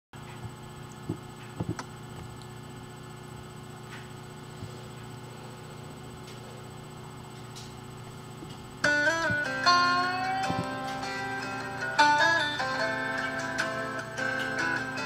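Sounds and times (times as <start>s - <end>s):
low electrical hum: 0.2s - 15.0s.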